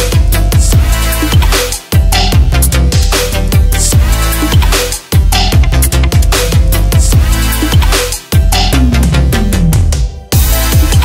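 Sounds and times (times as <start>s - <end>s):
deep sliding bass notes: 0.0s - 11.0s
electronic music with fast drum beat: 0.0s - 11.0s.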